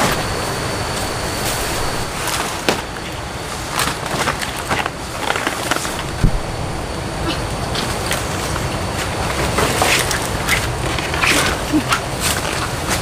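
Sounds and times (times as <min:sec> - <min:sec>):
banana leaves rustling: 0:00.0 - 0:13.0
steady hiss: 0:00.0 - 0:13.0.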